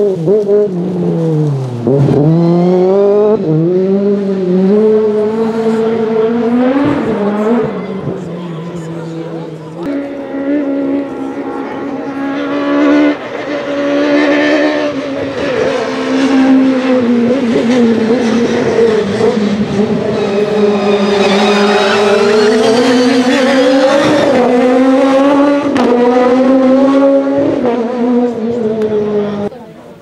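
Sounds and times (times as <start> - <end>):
rally car engine revving: 0.0 - 29.5.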